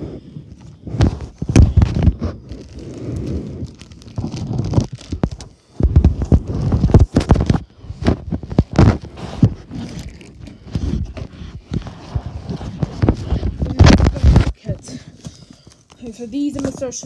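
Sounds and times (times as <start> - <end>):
plastic crinkling and rustling: 0.4 - 17.0.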